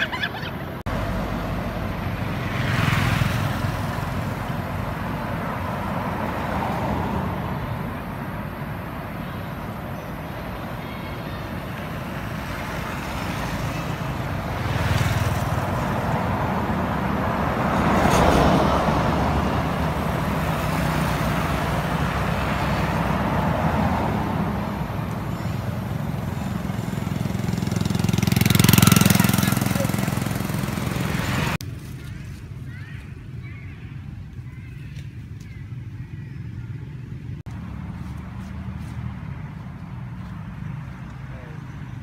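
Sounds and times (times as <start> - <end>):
road traffic rumble: 0.0 - 42.0
vehicles passing: 0.0 - 42.0.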